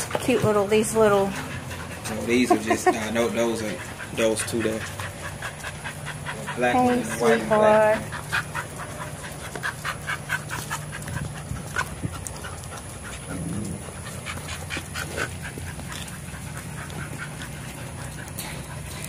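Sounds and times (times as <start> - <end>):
dogs panting: 0.0 - 19.0
steady low hum: 0.0 - 19.0.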